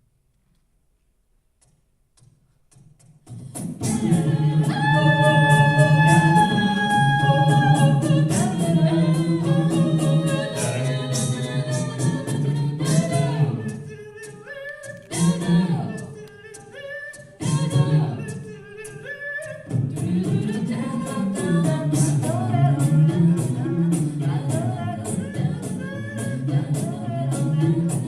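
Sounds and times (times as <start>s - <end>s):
vocal percussion ticking: 1.6s - 28.0s
a cappella group singing: 3.4s - 28.0s.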